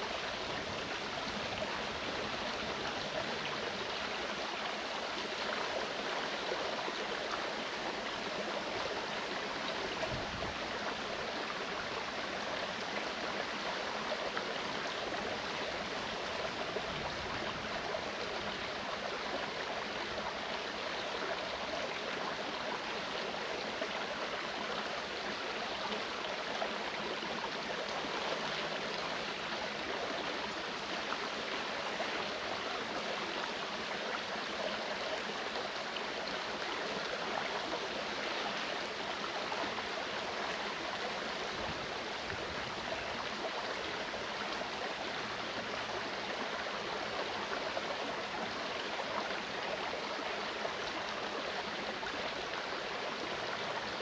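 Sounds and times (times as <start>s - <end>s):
creek water rushing: 0.0s - 54.0s.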